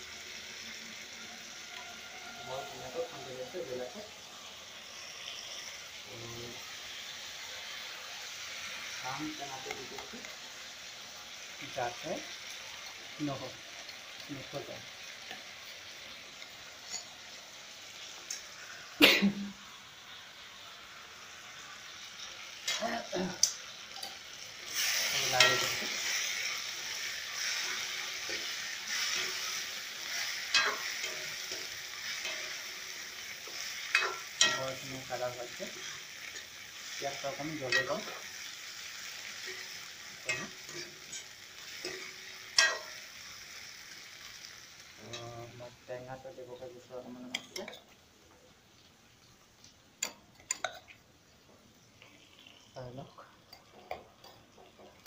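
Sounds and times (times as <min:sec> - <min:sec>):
paste sizzling in oil: 0:00.0 - 0:55.0.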